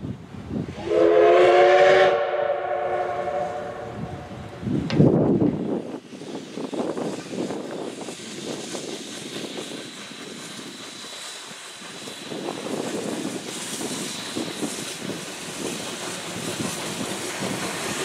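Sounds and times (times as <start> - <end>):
steam locomotive exhaust: 0.2 - 18.0.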